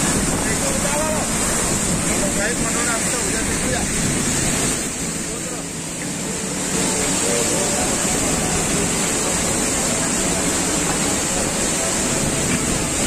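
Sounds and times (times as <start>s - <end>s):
river running high: 0.0s - 13.0s
waterfall rushing: 0.0s - 13.0s.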